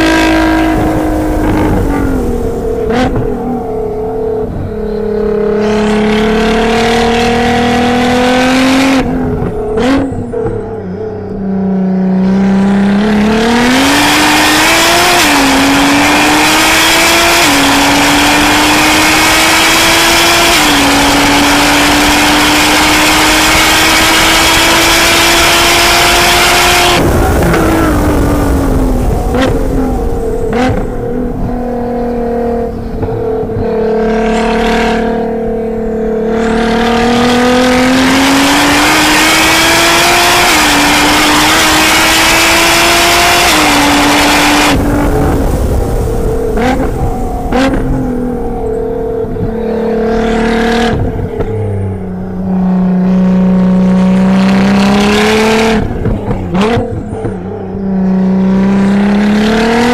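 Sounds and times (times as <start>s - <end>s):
car engine accelerating and shifting: 0.0s - 59.9s.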